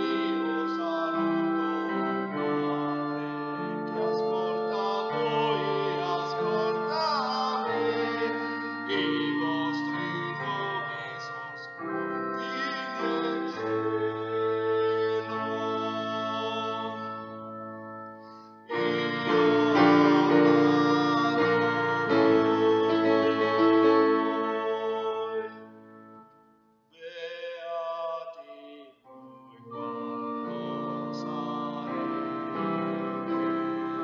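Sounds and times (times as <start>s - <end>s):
man singing a hymn: 0.0s - 17.5s, 18.7s - 25.7s, 27.0s - 34.0s
digital piano chords: 0.0s - 27.1s, 29.1s - 34.0s.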